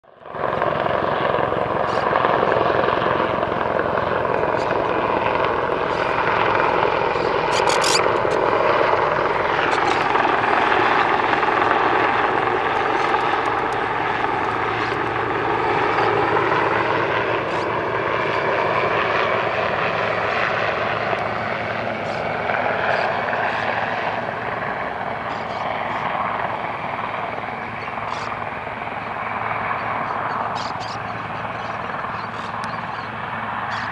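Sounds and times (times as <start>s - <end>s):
helicopter flying overhead: 0.0s - 33.9s.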